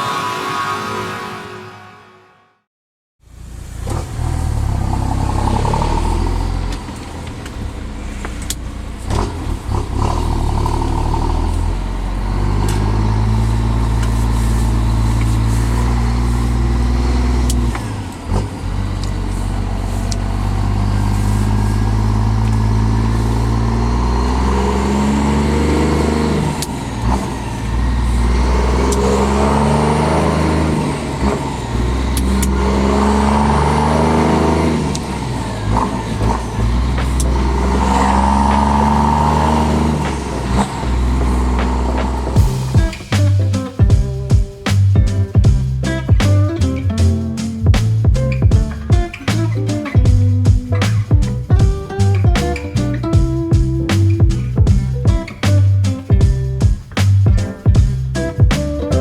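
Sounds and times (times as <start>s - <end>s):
truck diesel engine under load: 3.3s - 56.7s.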